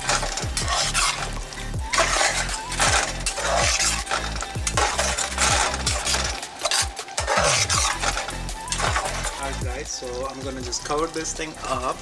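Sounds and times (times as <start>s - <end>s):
spoon stirring thick sauce in pan: 0.0s - 12.0s.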